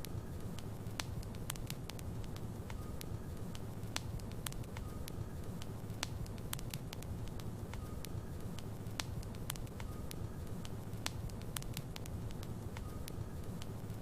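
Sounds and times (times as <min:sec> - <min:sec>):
sharp pops of fire: 0:00.0 - 0:13.9
logs crackling in fireplace: 0:00.0 - 0:14.0
low rumble of flames: 0:00.0 - 0:14.0.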